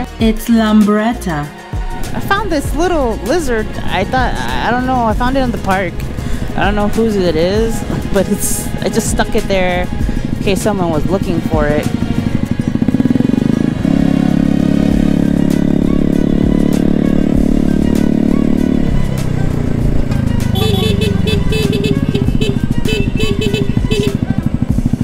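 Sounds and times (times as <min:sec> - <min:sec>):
scooter engines droning: 0:01.8 - 0:25.0.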